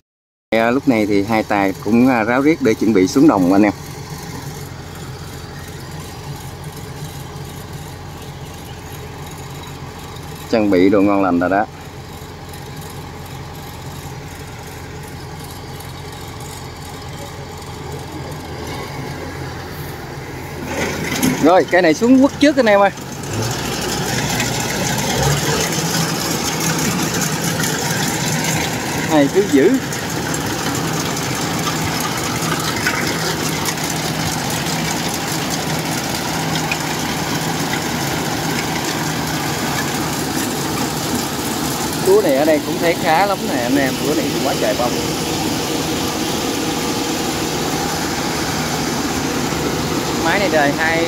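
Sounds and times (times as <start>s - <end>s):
diesel engines humming: 0.5s - 51.0s.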